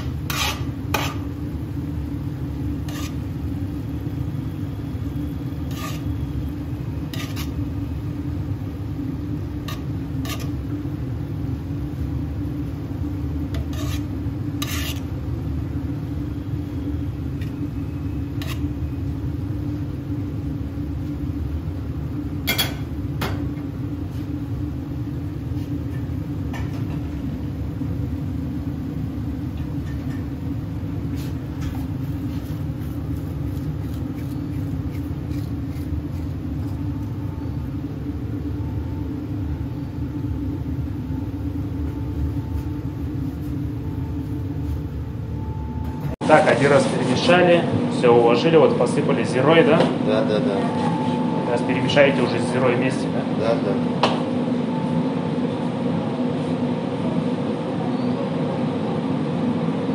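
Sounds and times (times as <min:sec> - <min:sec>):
kitchen equipment humming: 0:00.0 - 0:59.9.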